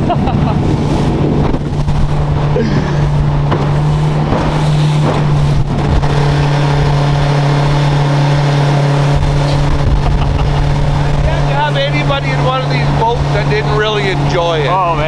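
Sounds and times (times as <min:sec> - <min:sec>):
motorboat engine droning: 0:00.0 - 0:15.0
water and wind noise: 0:00.0 - 0:15.0.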